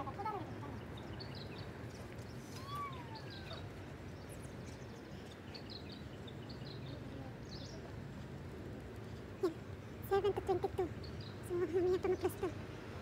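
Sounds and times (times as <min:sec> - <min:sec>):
small birds chirping: 0:00.1 - 0:08.1, 0:09.0 - 0:12.8.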